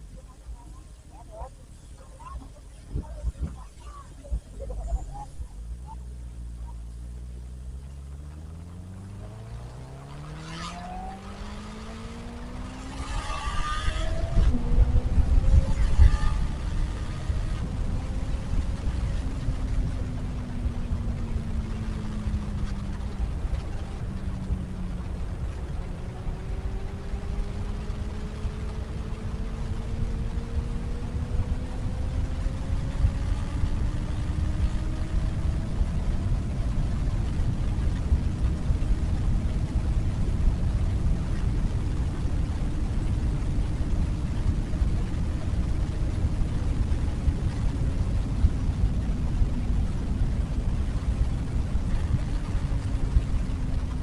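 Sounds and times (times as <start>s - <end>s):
wind buffeting the microphone: 0.0s - 6.9s, 10.8s - 54.0s
motorcycle engine: 0.0s - 54.0s.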